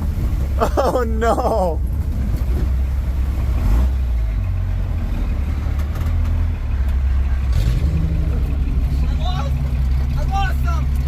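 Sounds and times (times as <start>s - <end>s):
truck engine low drone: 0.0s - 11.0s.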